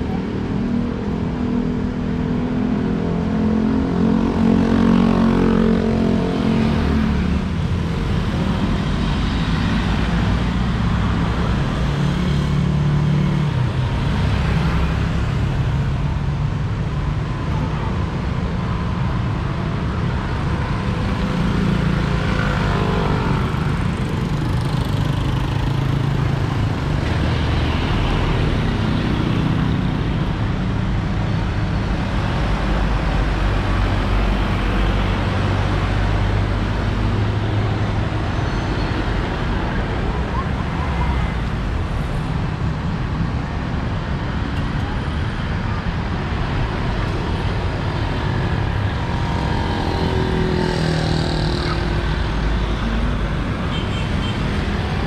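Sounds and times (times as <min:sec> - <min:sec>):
cars and motorcycles driving past: 0:00.0 - 0:55.0.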